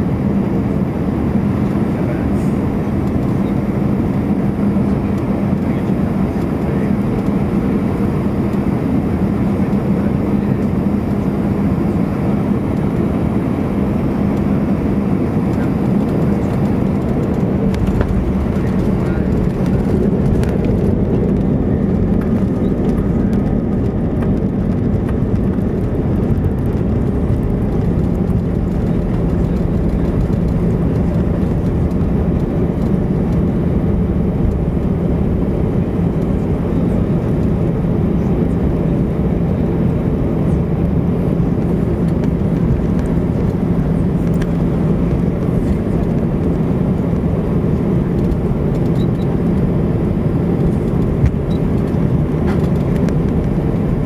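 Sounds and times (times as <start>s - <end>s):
aircraft cabin engine rumble: 0.0s - 54.0s
constant low hum: 0.0s - 54.0s.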